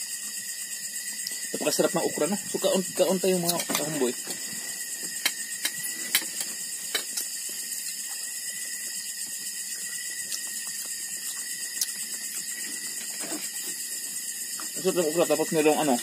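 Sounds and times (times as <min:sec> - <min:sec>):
night insects chorus: 0:00.0 - 0:16.0.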